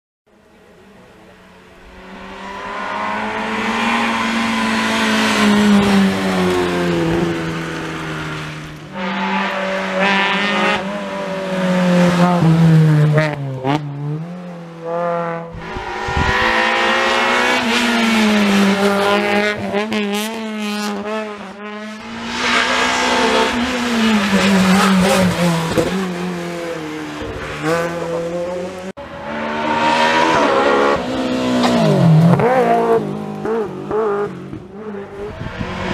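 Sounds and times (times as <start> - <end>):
race car engines revving: 0.4 - 35.9.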